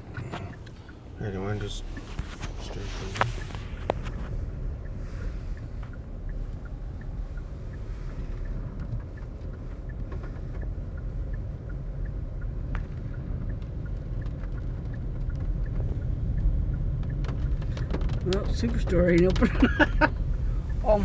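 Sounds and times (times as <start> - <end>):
car interior rumble: 0.0 - 21.0
faint light ticks: 0.1 - 20.9.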